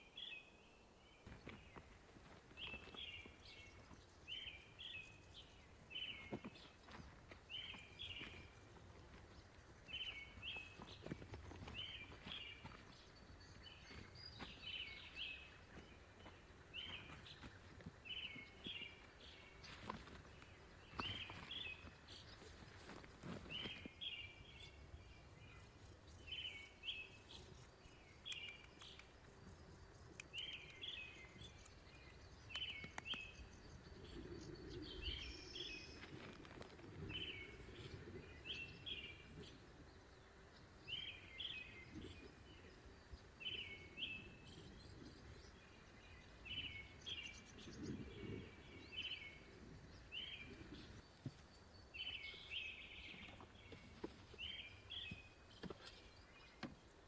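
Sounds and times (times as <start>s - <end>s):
small bird singing: 0.0s - 2.0s, 2.6s - 57.0s.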